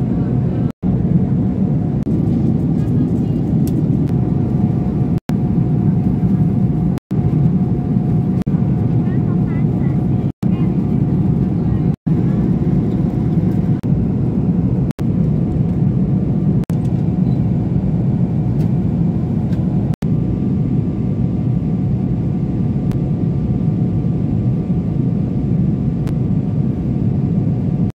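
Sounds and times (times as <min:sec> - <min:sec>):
airliner cabin rumble: 0:00.0 - 0:27.9.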